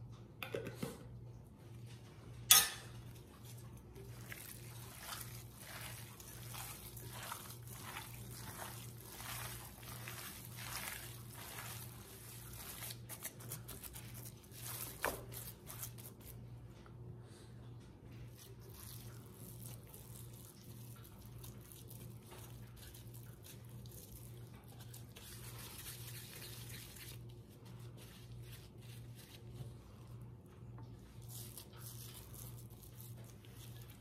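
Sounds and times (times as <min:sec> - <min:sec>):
wet squishing of kneaded meat: 0:01.7 - 0:16.9, 0:17.9 - 0:34.0.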